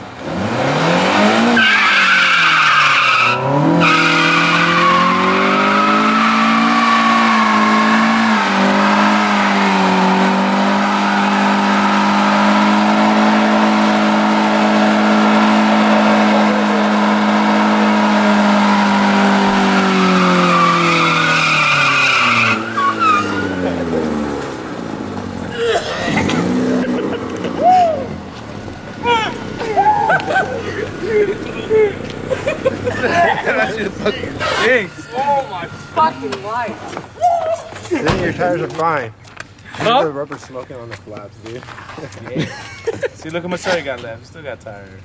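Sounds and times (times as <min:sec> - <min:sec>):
car engine revving hard: 0:00.0 - 0:36.6
tyres squealing: 0:01.4 - 0:38.6.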